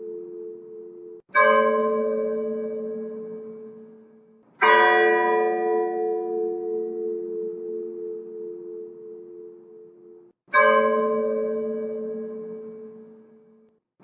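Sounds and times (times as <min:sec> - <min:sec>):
church bell tolling: 0:00.0 - 0:13.6.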